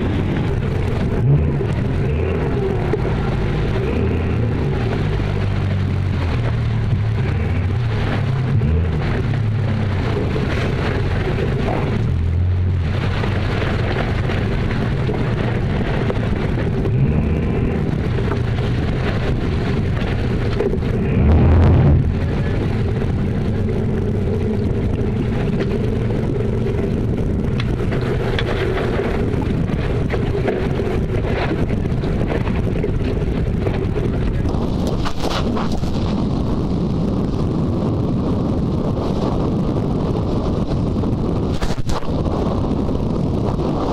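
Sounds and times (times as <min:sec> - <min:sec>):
outboard engines running: 0:00.0 - 0:43.9
wind buffeting microphone: 0:00.0 - 0:43.9.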